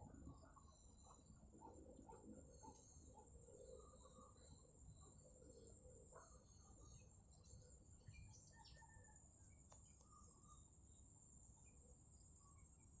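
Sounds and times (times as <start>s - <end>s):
bird chirps: 0.0s - 10.7s.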